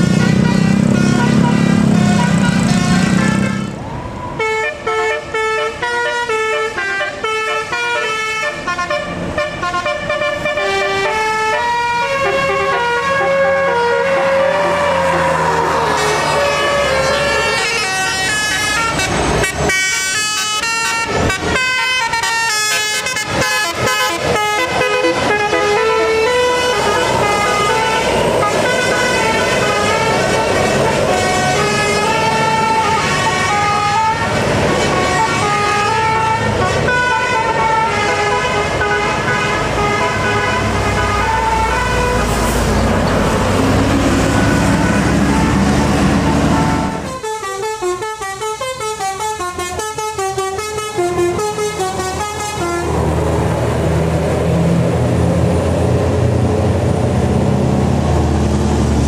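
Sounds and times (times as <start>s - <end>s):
musical air horns playing tune: 0.0s - 3.8s, 4.4s - 53.2s
bus engines running: 0.0s - 59.0s.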